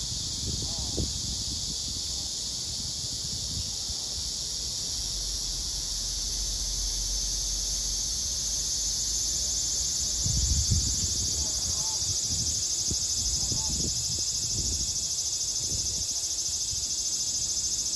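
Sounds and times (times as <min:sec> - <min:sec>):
cicadas buzzing: 0:00.0 - 0:17.9.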